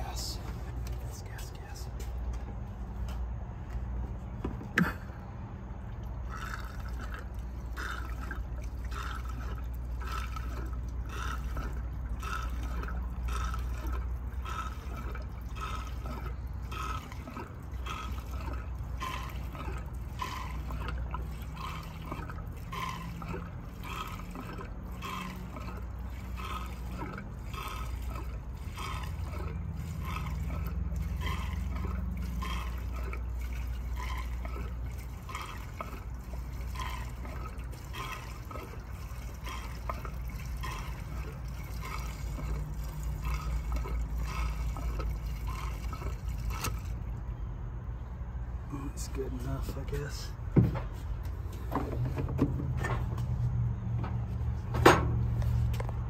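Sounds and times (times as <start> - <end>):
gasoline pouring and glugging: 0.0 - 56.0
steady low hum: 0.0 - 56.0.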